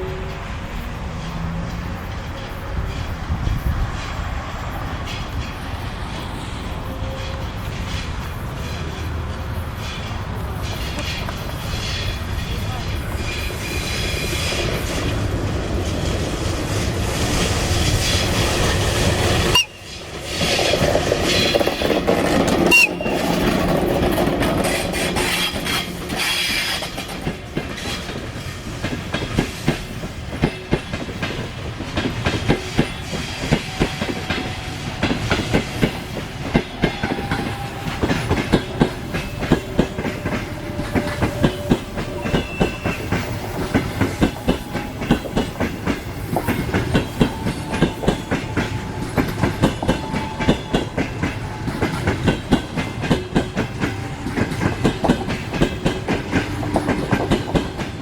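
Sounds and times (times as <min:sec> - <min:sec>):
train wheels clacking on rail joints: 0:00.0 - 0:58.0
wheels whining: 0:00.0 - 0:58.0.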